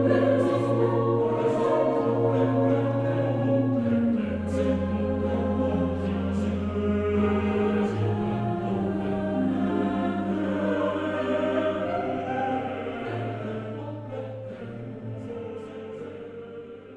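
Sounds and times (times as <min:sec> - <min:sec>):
choir holding sustained chords: 0:00.0 - 0:16.9.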